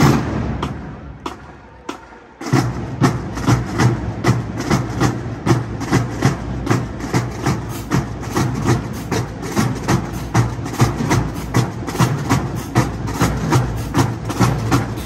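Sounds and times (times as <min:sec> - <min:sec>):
snare and tenor drums: 0:00.0 - 0:15.0.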